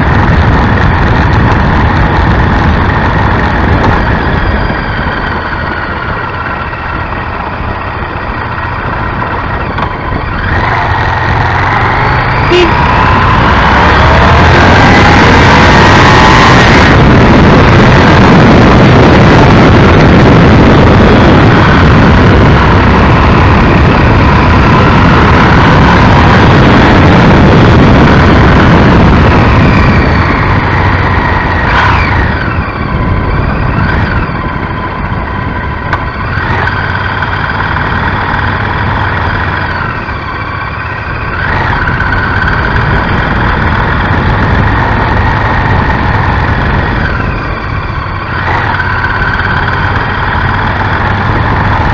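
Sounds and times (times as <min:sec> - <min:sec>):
motorcycle engine running: 0:00.0 - 0:51.9
wind rushing over microphone: 0:00.0 - 0:51.9.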